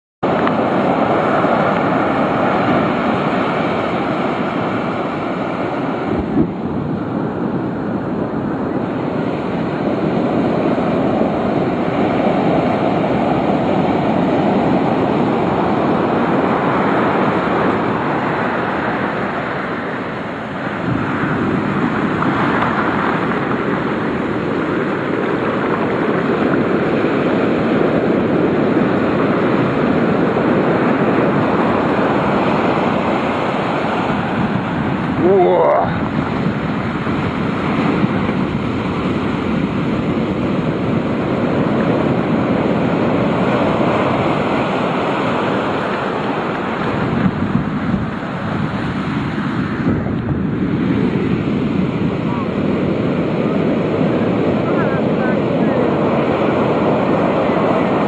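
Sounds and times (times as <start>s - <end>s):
ocean waves breaking on beach: 0.2s - 58.0s.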